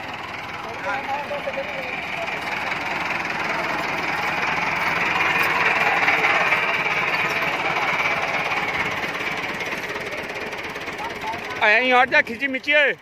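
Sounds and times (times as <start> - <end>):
tractor diesel engine running hard: 0.0 - 13.0.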